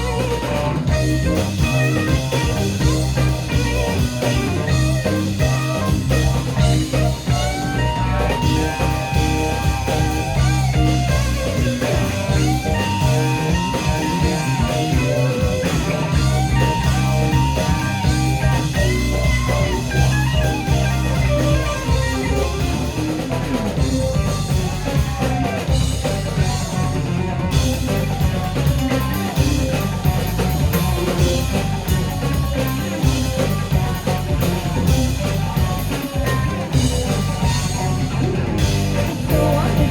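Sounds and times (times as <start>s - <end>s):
bass guitar: 0.0s - 39.9s
drum kit: 0.0s - 39.9s
electric guitar lines: 0.0s - 39.9s.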